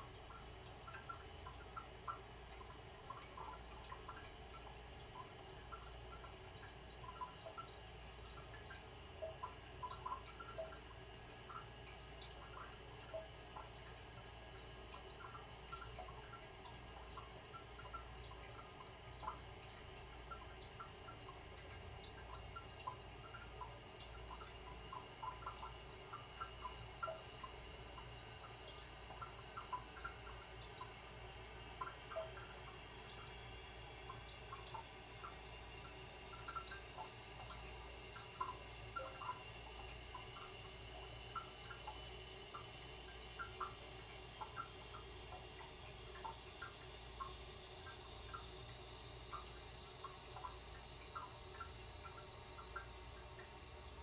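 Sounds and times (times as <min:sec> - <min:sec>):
water dripping into toilet: 0:00.0 - 0:54.0.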